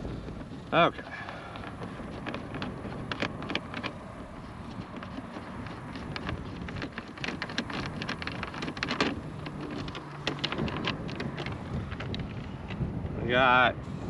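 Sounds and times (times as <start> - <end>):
light wind noise: 0.0 - 14.0
handling clicks and taps: 0.2 - 12.8.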